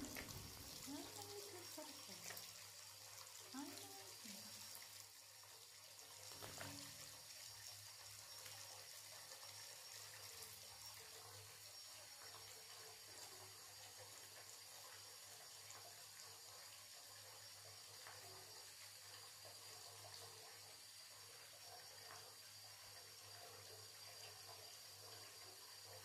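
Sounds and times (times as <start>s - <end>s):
running water from tap: 0.0s - 26.0s.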